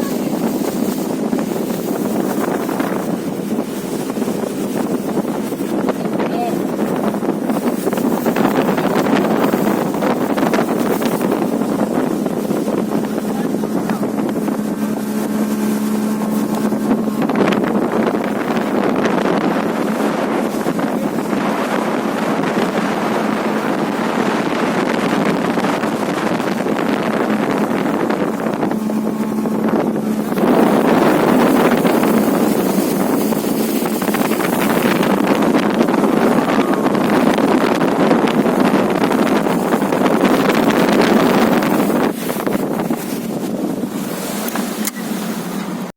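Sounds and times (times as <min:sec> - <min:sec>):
motorboat engine: 0:00.0 - 0:45.9
rushing water: 0:00.0 - 0:45.9
wind buffeting microphone: 0:00.0 - 0:45.9.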